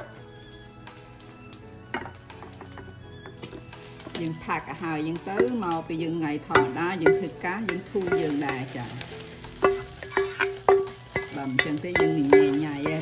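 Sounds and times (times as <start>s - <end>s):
food sizzling in a pan: 0.0s - 13.0s
spatula scraping and knocking pan: 1.9s - 13.0s.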